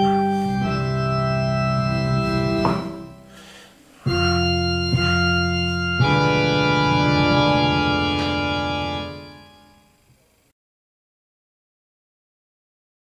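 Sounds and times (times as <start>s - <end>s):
organ chords: 0.0s - 10.5s.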